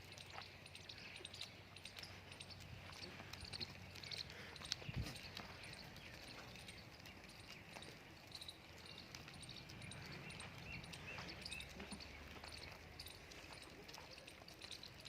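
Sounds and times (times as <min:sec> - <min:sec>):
small high chirps: 0:00.0 - 0:15.0.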